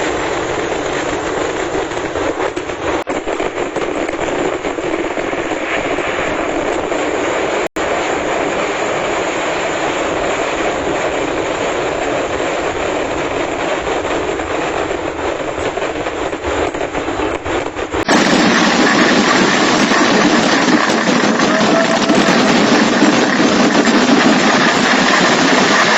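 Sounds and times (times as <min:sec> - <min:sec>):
fireworks crackling roar: 0:00.0 - 0:25.9.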